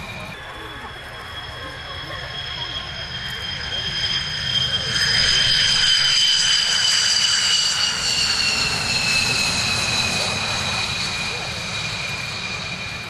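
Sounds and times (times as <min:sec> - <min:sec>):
jet engines whining: 0:00.0 - 0:13.0
low jet rumble: 0:00.0 - 0:13.0.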